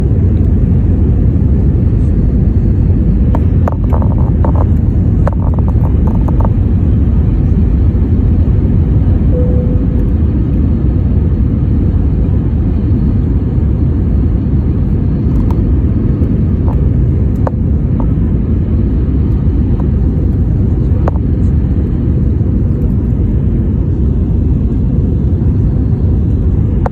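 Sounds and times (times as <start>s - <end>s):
airliner cabin roar: 0.0s - 26.9s.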